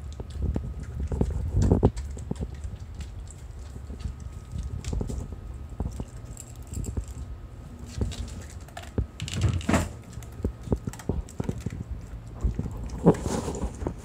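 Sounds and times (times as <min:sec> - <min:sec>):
dog crunching dry kibble: 0:00.0 - 0:14.0.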